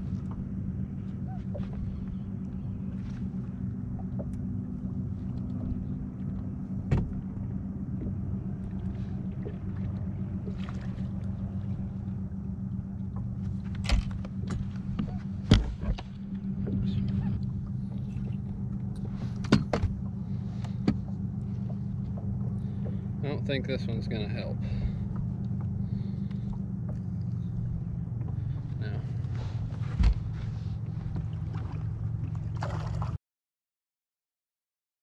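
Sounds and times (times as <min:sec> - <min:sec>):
knocks and thumps on boat: 0:00.0 - 0:23.3, 0:24.4 - 0:33.2
boat motor humming: 0:00.0 - 0:33.2.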